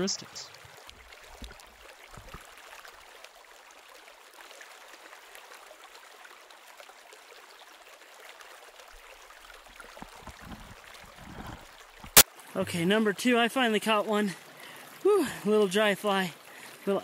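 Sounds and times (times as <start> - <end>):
creek trickling over stones: 0.0 - 17.0.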